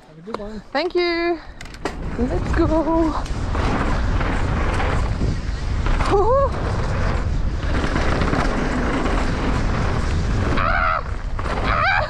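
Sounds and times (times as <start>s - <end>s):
bike tyres on dirt: 0.1s - 12.0s
wind rushing over microphone: 0.5s - 12.0s.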